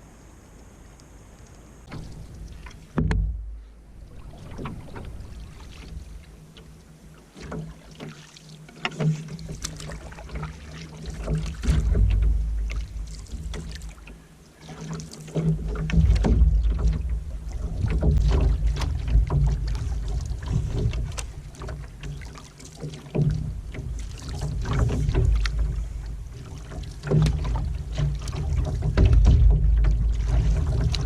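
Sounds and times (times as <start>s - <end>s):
water swishing around paddle: 0.1s - 31.0s.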